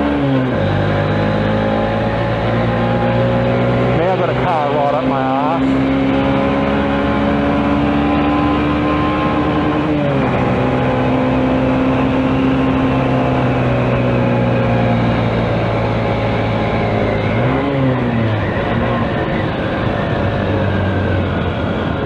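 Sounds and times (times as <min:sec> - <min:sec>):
small motorcycle engine running: 0:00.0 - 0:22.0
wind and road rush: 0:00.0 - 0:22.0.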